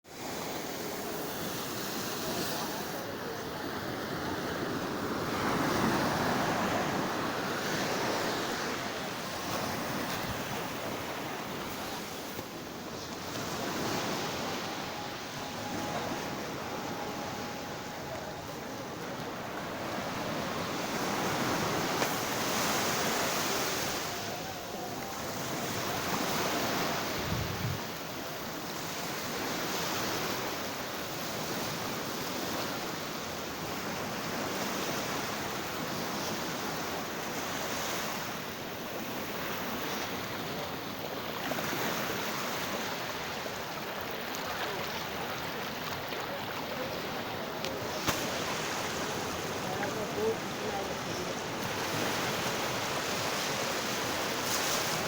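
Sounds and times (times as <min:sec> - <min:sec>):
surf waves washing in: 0:00.1 - 0:55.0.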